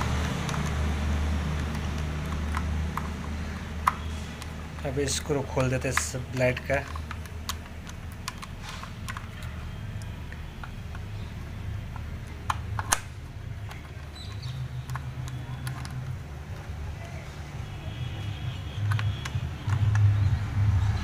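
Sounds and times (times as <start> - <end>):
screwdriver scraping and clicking: 0.0 - 17.4, 18.2 - 20.2.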